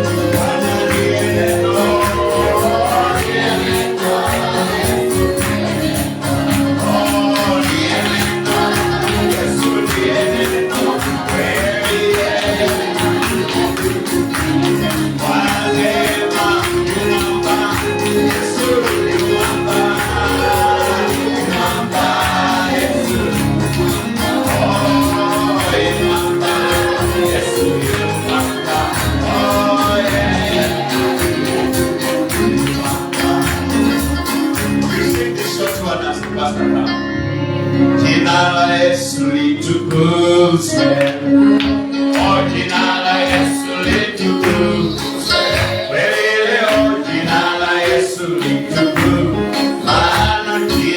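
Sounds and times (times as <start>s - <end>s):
tambourine beat: 0.0s - 36.1s, 42.1s - 50.9s
bass: 0.0s - 46.1s, 48.7s - 50.9s
voices singing: 0.0s - 50.9s.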